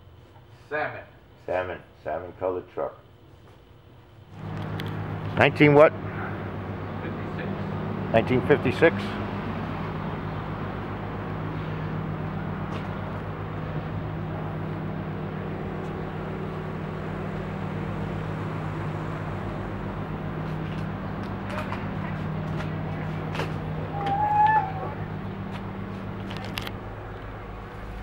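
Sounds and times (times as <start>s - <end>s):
engine idling hum: 4.3s - 28.0s.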